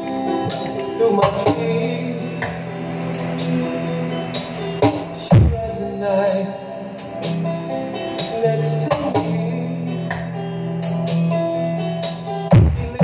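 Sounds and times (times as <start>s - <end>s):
loud bass music through speakers: 0.0s - 13.0s.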